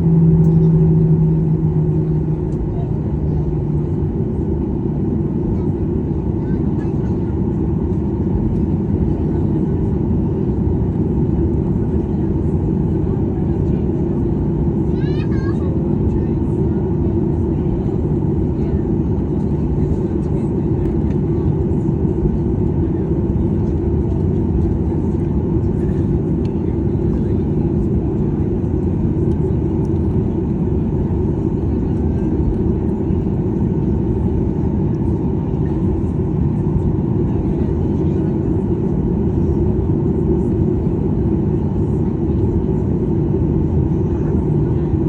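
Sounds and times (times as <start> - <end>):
aircraft cabin rumble: 0.0 - 45.0.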